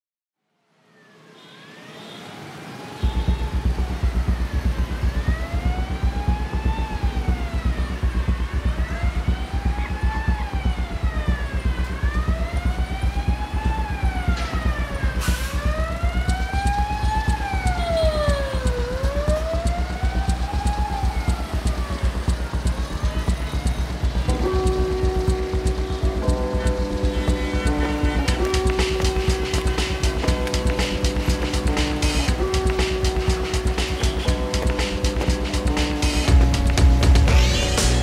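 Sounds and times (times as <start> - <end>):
wailing emergency sirens: 0.7 - 38.0
fast low pulsing: 3.0 - 38.0.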